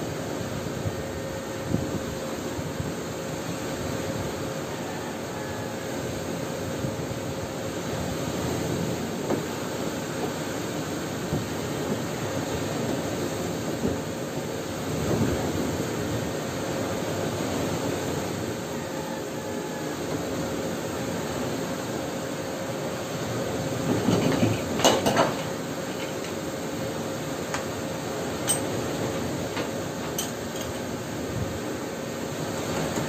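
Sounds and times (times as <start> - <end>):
mechanical hum and rumble: 0.0 - 33.0.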